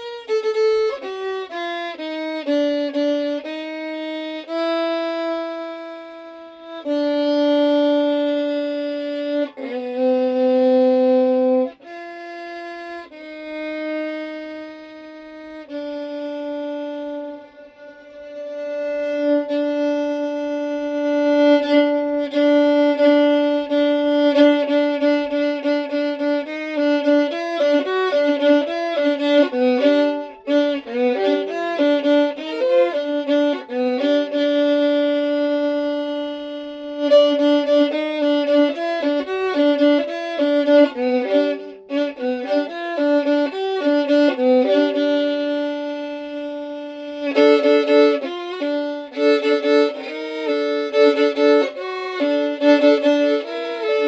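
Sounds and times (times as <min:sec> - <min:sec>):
solo violin melody: 0:00.0 - 0:54.0.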